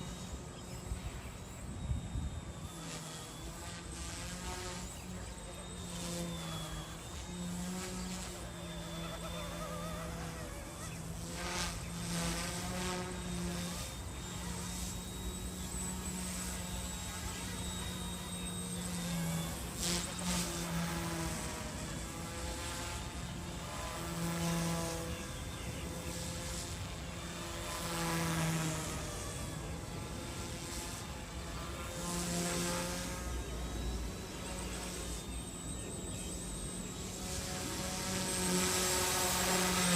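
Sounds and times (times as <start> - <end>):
rc helicopter buzzing whir: 0.0 - 39.9.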